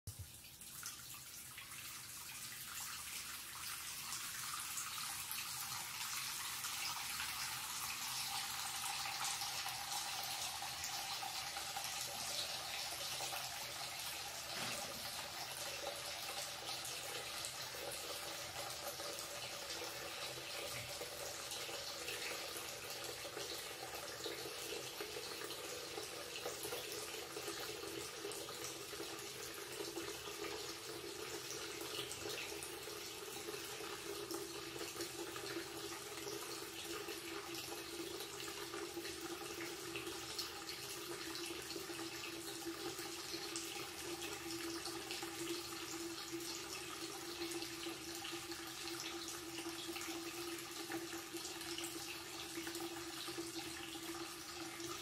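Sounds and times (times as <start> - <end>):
tap water pouring into basin: 0.1 - 55.0.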